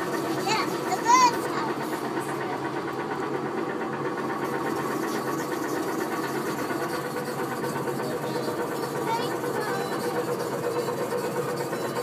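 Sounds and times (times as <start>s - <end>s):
small tractor motor running: 0.0s - 12.0s.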